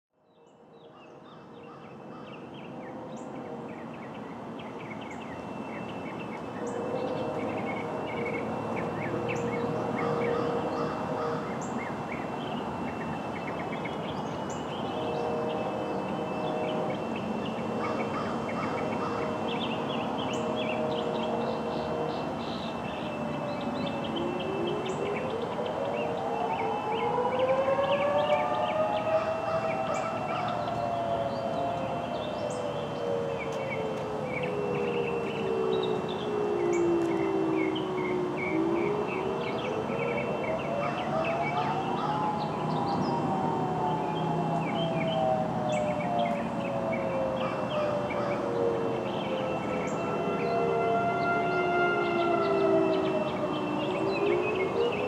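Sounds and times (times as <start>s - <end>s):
birds chirping: 0.8s - 55.0s.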